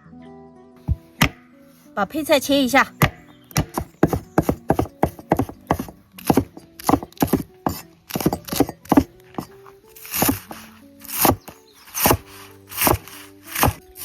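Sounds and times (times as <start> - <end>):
knife chopping vegetables: 0.9 - 1.4, 3.0 - 14.0.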